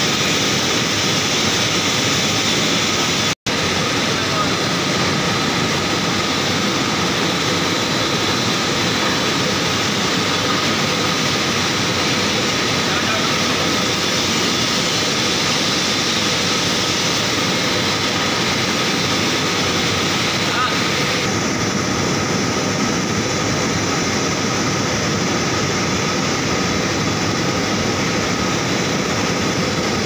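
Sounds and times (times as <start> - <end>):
mechanical drone of machinery: 0.0 - 30.0.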